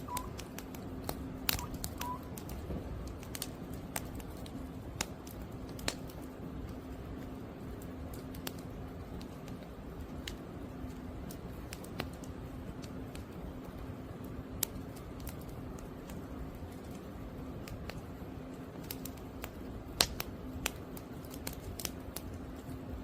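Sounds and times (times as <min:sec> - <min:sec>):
firewood crackling and popping: 0:00.0 - 0:23.0
low rumble of flames: 0:00.0 - 0:23.0.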